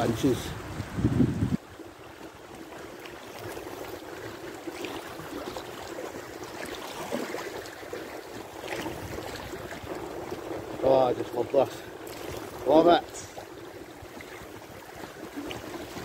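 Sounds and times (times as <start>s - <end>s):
small water splashes: 1.6s - 16.0s
river water rushing over stones: 1.9s - 16.0s.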